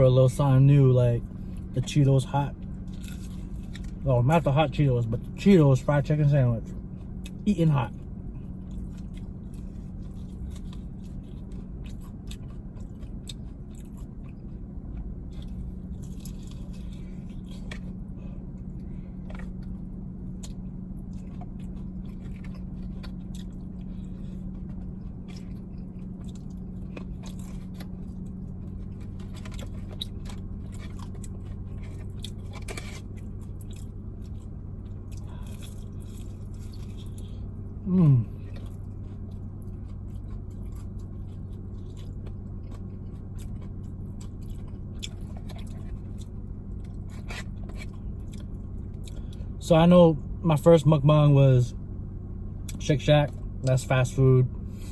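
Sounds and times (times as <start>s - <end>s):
steady low hum: 0.0s - 54.9s
chewing crispy fried chicken: 0.3s - 49.6s.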